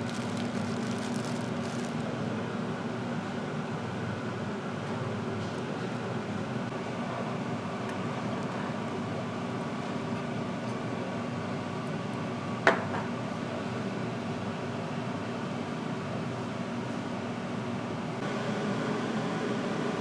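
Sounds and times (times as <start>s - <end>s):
fan humming: 0.0s - 20.0s.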